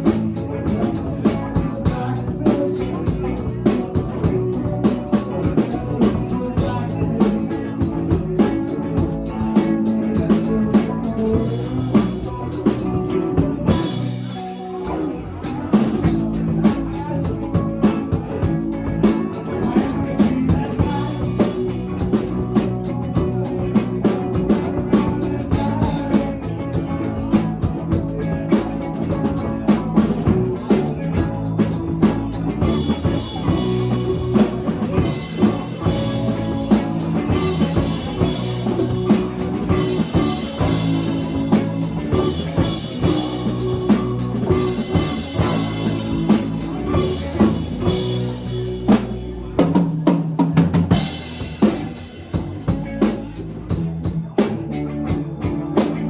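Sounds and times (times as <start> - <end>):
drum kit beat: 0.0 - 56.0
live rock band playing: 0.0 - 56.0.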